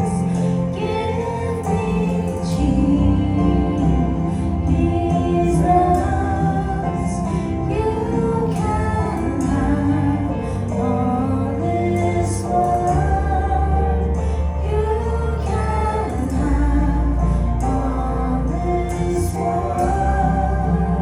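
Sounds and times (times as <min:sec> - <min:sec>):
gospel singing voices: 0:00.0 - 0:21.0
instrumental backing with bass: 0:00.0 - 0:21.0.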